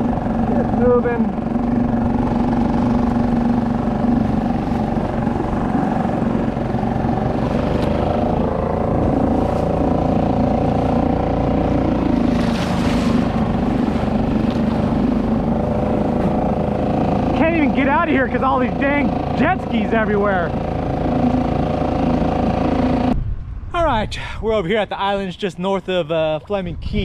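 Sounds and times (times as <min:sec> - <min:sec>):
small marine engine running: 0:00.0 - 0:23.2
water and wind rushing: 0:00.0 - 0:27.0.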